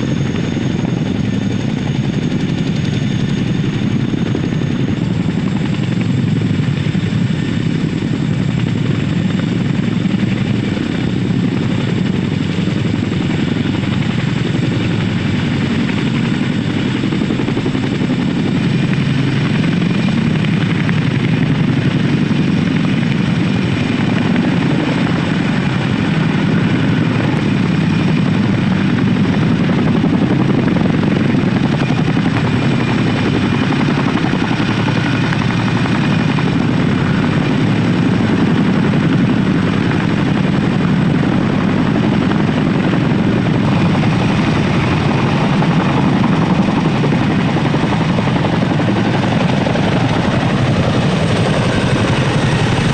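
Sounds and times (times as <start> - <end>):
helicopter rotor thrum: 0.0 - 52.9.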